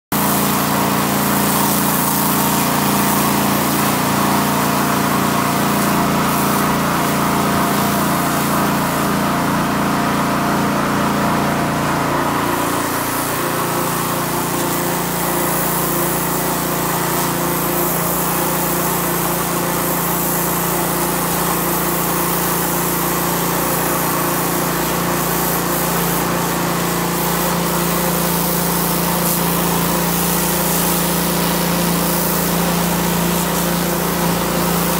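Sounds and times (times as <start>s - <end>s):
pressure washer motor humming: 0.1s - 34.9s
water jet hissing on concrete: 0.1s - 34.9s.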